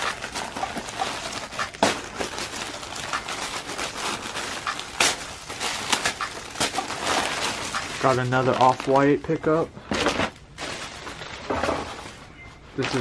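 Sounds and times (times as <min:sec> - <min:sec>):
tissue paper rustling: 0:00.0 - 0:09.1, 0:09.9 - 0:13.0
plastic bag crinkling: 0:00.0 - 0:13.0.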